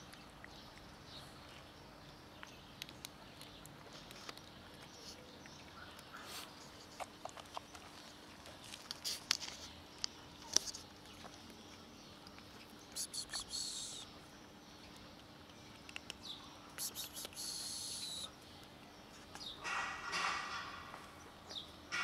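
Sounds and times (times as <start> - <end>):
cats chewing food: 0.0 - 19.6.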